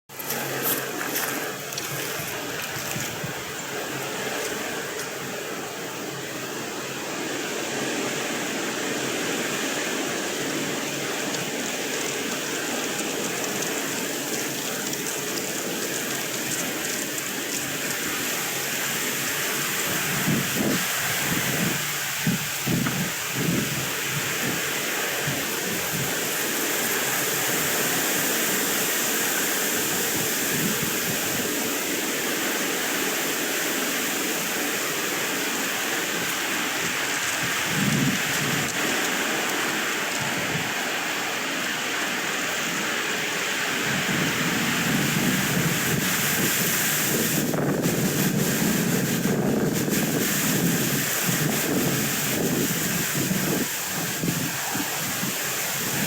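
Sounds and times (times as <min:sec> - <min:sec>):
wind blowing across microphone: 0:00.1 - 0:56.0.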